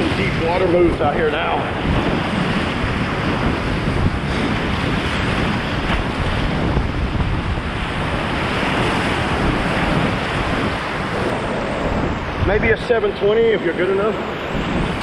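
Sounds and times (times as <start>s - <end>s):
whitewater rapid rushing: 0.0s - 15.0s.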